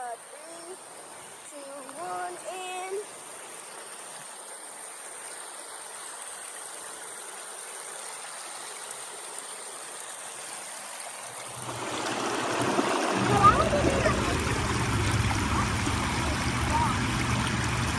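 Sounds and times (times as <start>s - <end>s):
water running over rocks: 0.0s - 17.9s.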